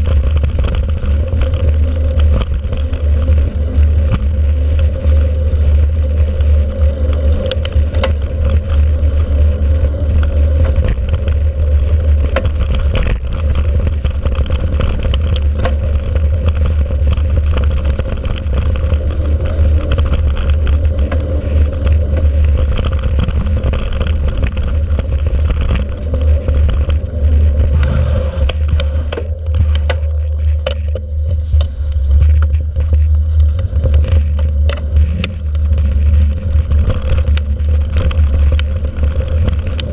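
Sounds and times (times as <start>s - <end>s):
bike clicks and rattles: 0.0s - 39.9s
tyres crunching over ground: 0.0s - 39.9s
wind rumble on microphone: 0.0s - 39.9s.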